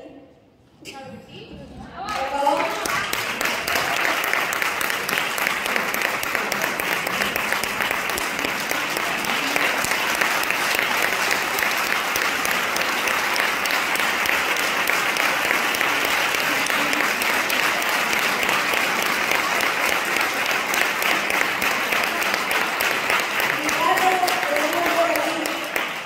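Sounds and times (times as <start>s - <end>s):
audience applauding: 2.1s - 26.0s.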